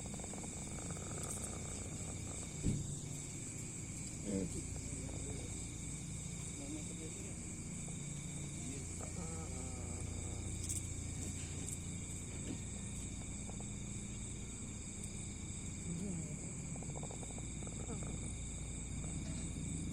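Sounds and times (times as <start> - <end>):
crickets chirping: 0.0 - 19.9.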